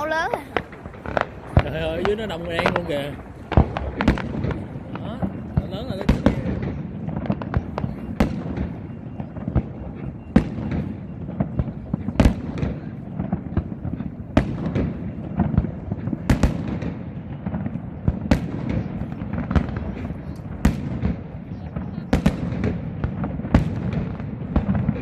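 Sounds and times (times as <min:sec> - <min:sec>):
fireworks bangs: 0:00.0 - 0:25.0
rumble and crackle of bursts: 0:00.0 - 0:25.0.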